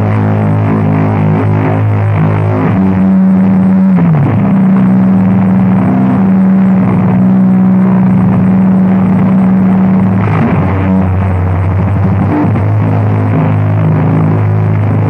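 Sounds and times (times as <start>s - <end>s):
low drone music: 0.0s - 15.0s.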